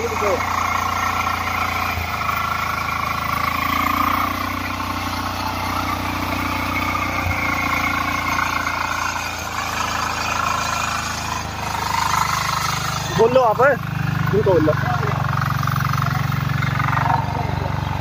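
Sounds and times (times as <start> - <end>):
power weeder diesel engine running: 0.0 - 18.0.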